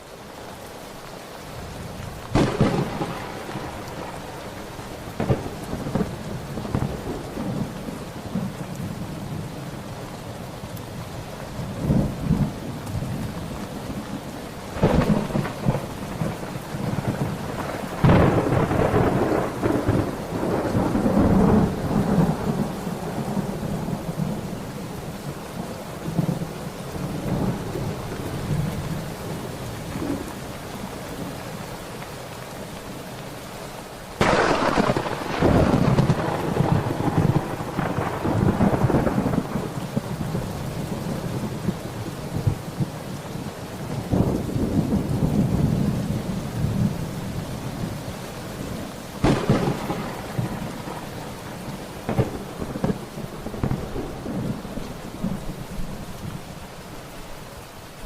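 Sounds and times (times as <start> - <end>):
steady rain: 0.0 - 58.0
thunder rumbling: 1.6 - 9.8, 11.6 - 30.4, 34.2 - 56.5.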